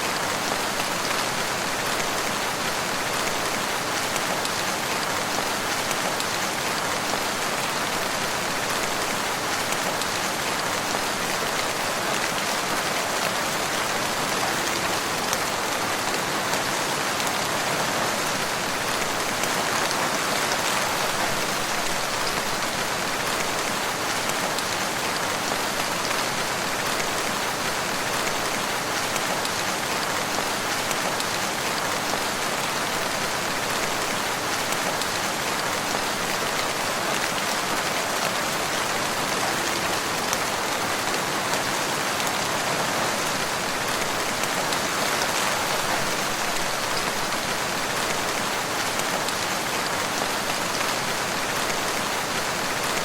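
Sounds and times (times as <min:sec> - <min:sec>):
rain patter on leaves: 0:00.0 - 0:53.0.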